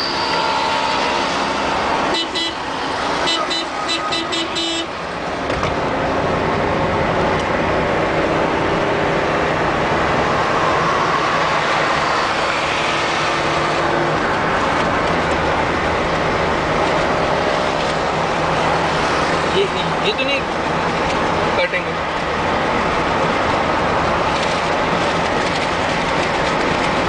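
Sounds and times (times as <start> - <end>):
car engine hum: 0.0 - 27.0
tyre and road noise: 0.0 - 27.0.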